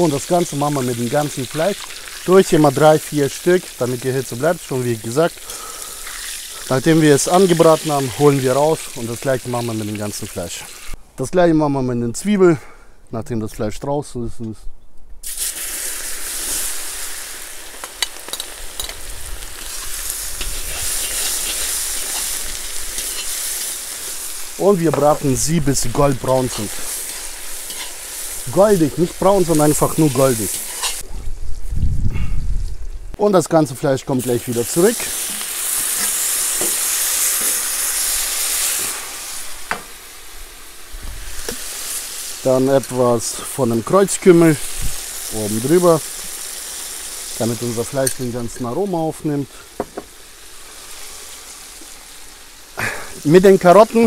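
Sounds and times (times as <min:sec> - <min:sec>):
onions sizzling in hot oil: 0:00.0 - 0:11.0, 0:15.2 - 0:31.8, 0:34.0 - 0:54.0.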